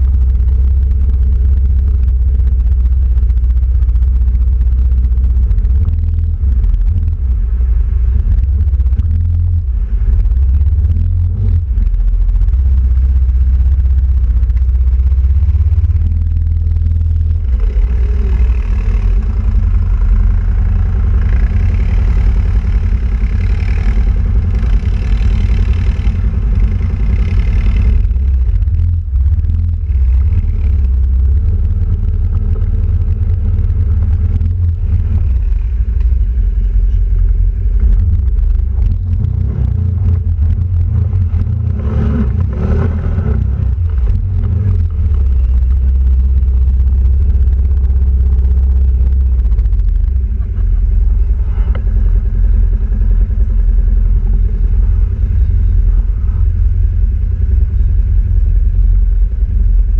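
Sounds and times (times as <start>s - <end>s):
quad bike engine rumbling: 0.0s - 59.9s.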